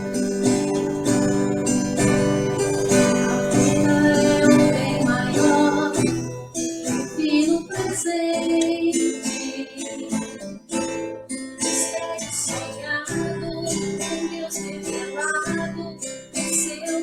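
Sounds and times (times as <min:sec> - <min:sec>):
acoustic guitar strumming: 0:00.0 - 0:17.0
faint singing voice: 0:00.0 - 0:17.0.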